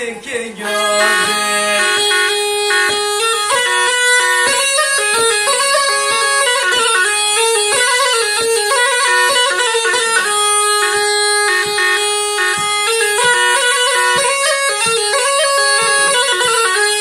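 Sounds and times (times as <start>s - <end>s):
bagpipe melody: 0.6s - 17.0s.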